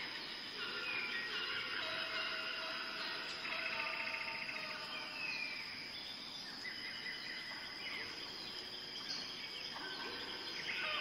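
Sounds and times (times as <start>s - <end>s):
faint bird chirps: 0.0s - 11.0s
high-pitched insect trill: 0.0s - 11.0s.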